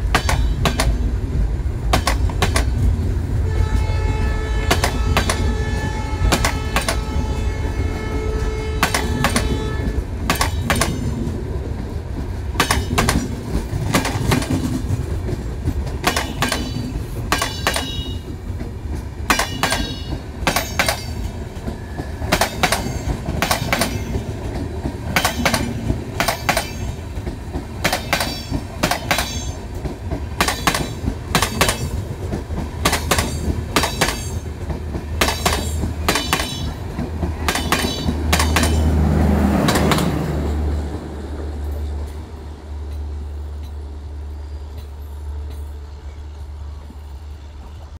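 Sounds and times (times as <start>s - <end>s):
train wheels clacking on rail joints: 0.0s - 3.1s, 3.8s - 47.9s
low train rumble: 0.0s - 47.9s.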